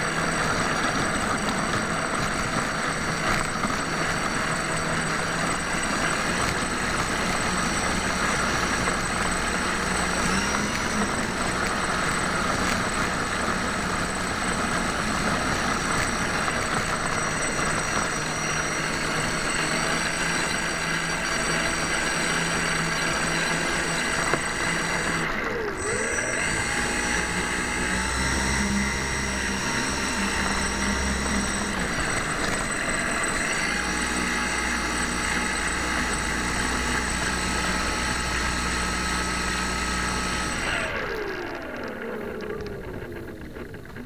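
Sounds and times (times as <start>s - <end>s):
model plane propeller motors whining: 0.0s - 44.0s.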